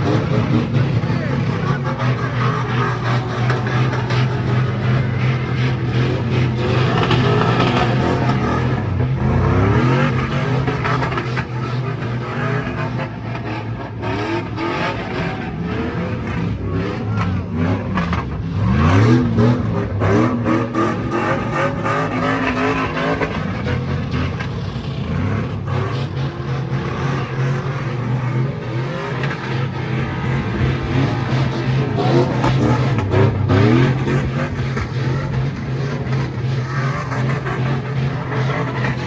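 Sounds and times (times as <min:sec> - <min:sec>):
car engines revving hard: 0:00.0 - 0:39.0.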